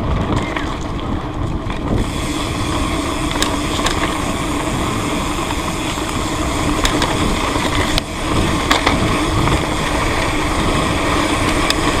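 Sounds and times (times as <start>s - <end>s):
tyres rolling on dirt: 0.0s - 12.0s
wind rushing over microphone: 0.0s - 12.0s
bicycle freewheel buzzing: 0.1s - 12.0s.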